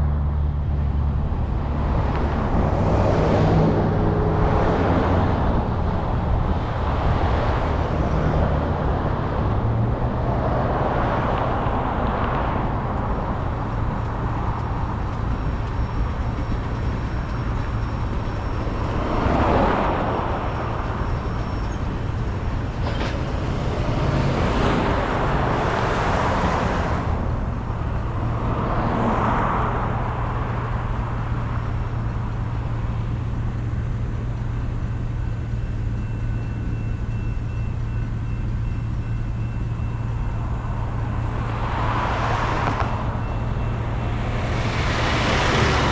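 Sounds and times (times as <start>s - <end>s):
freight train rumbling: 0.0s - 37.1s
road traffic passing: 0.0s - 45.9s.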